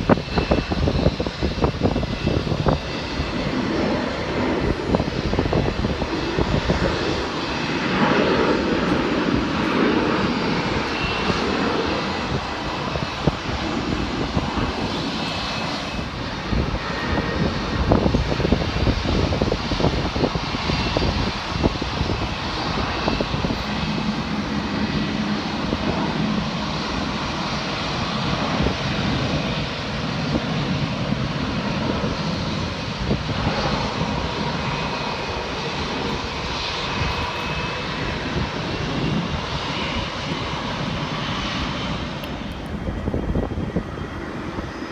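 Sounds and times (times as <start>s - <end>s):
jet engines running: 0.0s - 44.9s
wind buffeting microphone: 0.0s - 44.9s.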